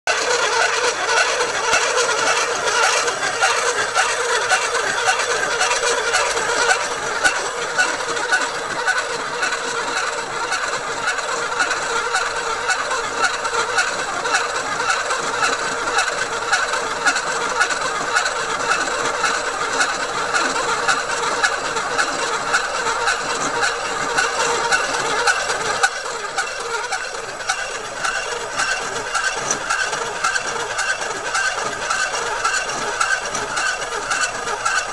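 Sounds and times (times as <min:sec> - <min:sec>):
glass-cutting machine rattling and grinding: 0:00.1 - 0:34.9.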